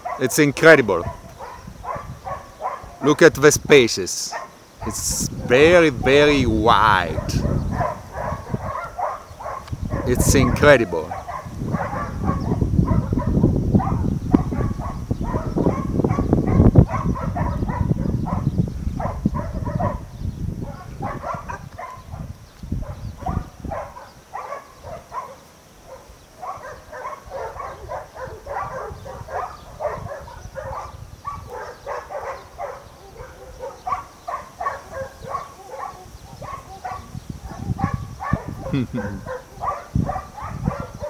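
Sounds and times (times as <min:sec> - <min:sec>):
dogs barking: 0:00.0 - 0:03.2, 0:04.2 - 0:41.0.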